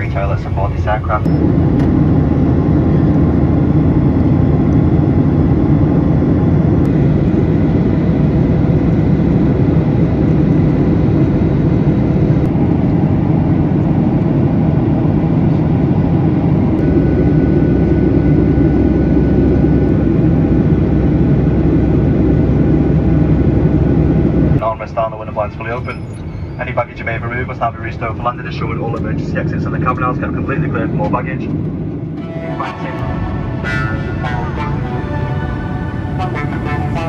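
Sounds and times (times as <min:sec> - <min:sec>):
airplane cabin roar in flight: 0:00.0 - 0:37.0.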